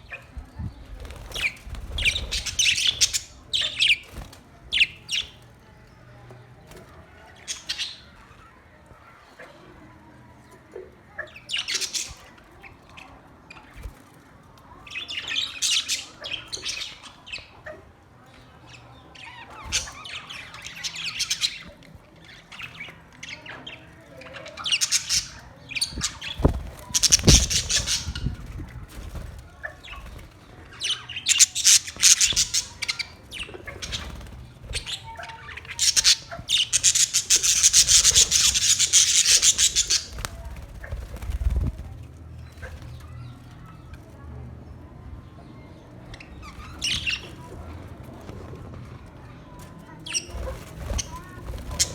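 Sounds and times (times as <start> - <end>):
parrots chirping and chattering: 0.0 - 5.4, 7.3 - 8.4, 11.0 - 14.0, 14.8 - 43.9, 45.2 - 51.9.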